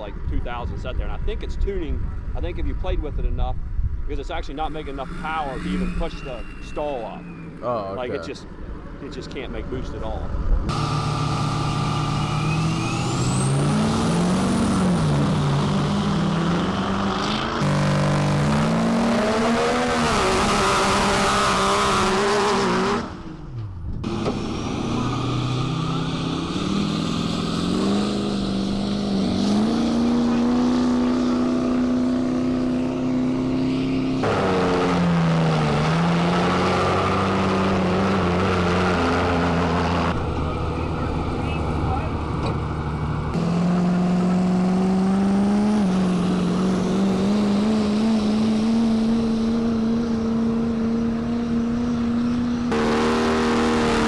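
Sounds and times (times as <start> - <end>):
diesel truck engines revving: 4.2 - 54.0.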